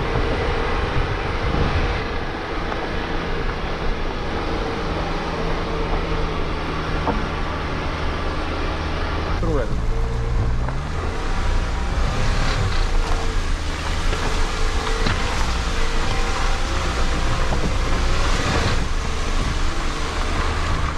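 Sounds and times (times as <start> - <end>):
car engine running at low speed: 0.0 - 20.9.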